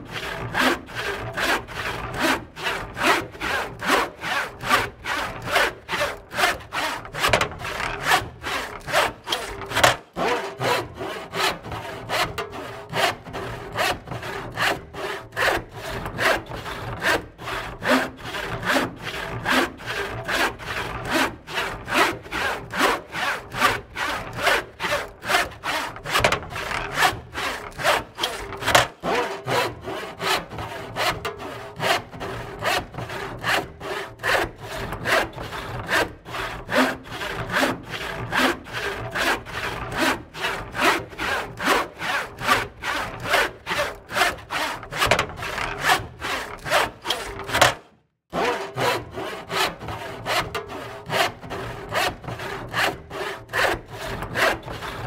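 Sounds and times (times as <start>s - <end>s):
hand saw cutting wood: 0.0s - 55.0s.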